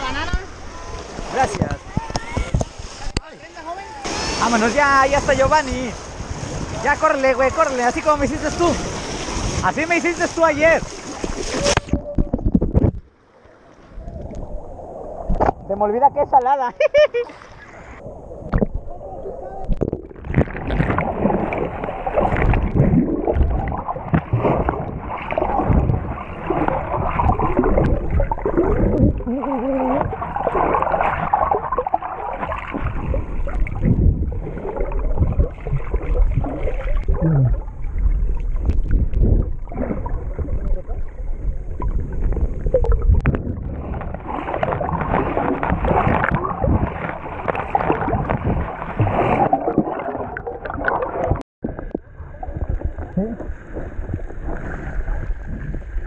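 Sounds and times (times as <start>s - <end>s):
underwater rumbling and sloshing: 0.0s - 3.2s, 4.0s - 16.3s, 17.3s - 56.0s.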